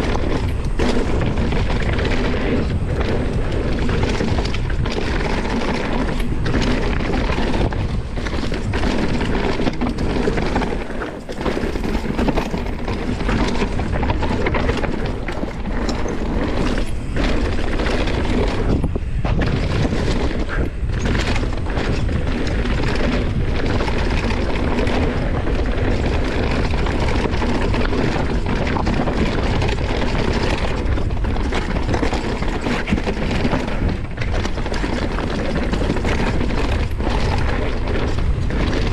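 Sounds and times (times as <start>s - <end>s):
bike knocking and rattling: 0.0s - 38.9s
bike tyres rumbling over dirt: 0.0s - 38.9s
wind buffeting microphone: 0.0s - 38.9s.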